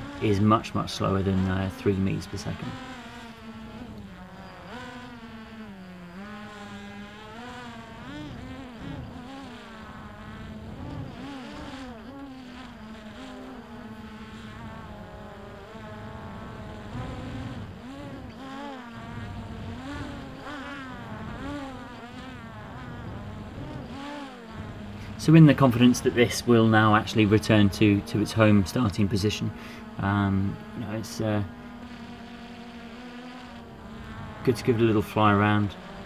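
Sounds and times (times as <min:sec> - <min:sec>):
quadcopter motors buzzing: 0:00.0 - 0:36.0.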